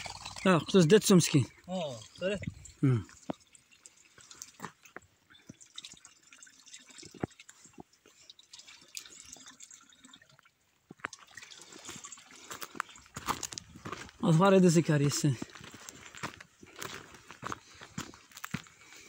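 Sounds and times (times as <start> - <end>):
water dripping and trickling: 0.0 - 19.0.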